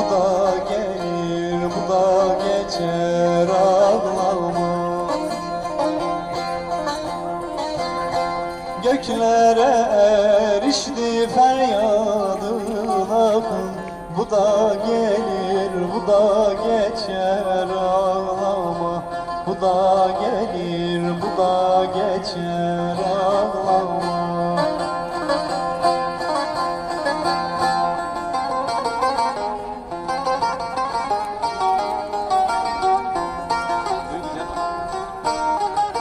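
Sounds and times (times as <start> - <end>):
plucked string melody: 0.0 - 36.0.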